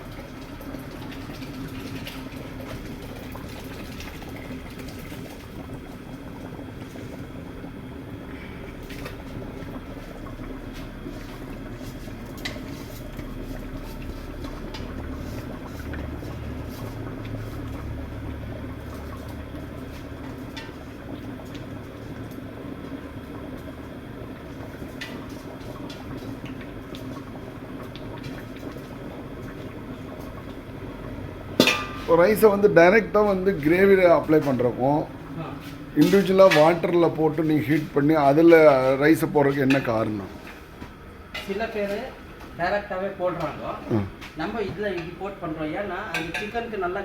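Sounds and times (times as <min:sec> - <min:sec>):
water bubbling at a boil: 0:00.0 - 0:47.0.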